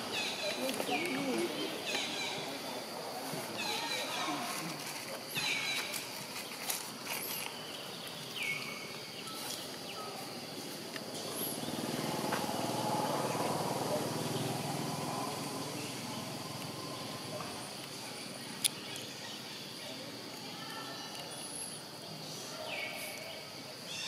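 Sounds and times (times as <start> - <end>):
insect drone: 0.0 - 24.0.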